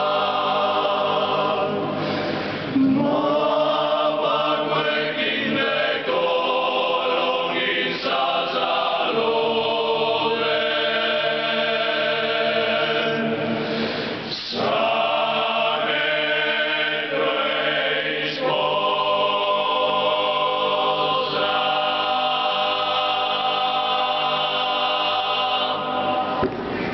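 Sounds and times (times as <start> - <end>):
male choir singing a cappella: 0.0 - 26.5.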